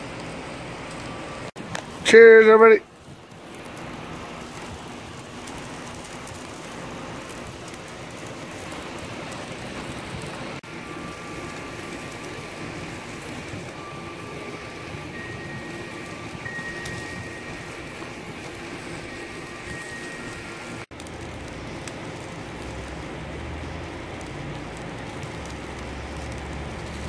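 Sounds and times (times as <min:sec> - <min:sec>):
steak sizzling on a grill: 0:00.0 - 0:27.0.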